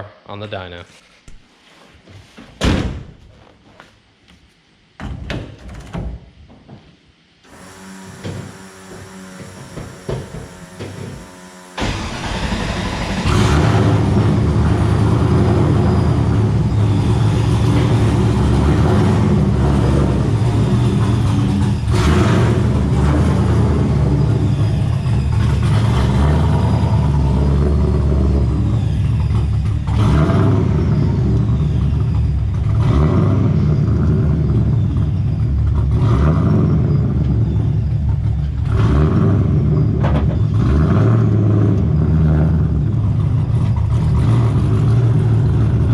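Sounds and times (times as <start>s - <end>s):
car engine revving: 7.5s - 45.9s.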